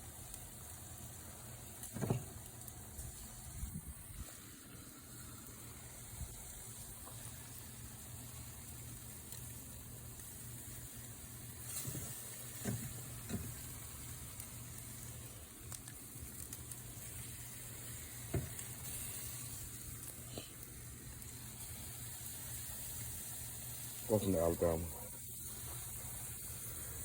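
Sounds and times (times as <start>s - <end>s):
meat sizzling on a grill: 0.0s - 27.0s.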